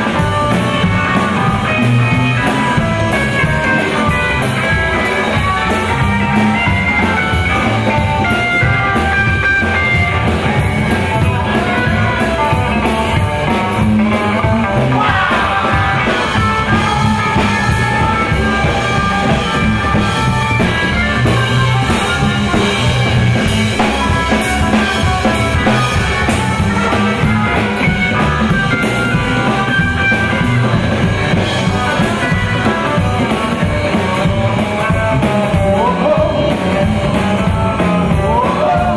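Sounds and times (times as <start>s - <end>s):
drum kit: 0.0s - 38.9s
electric guitar: 0.0s - 38.9s
upright double bass: 0.0s - 38.9s.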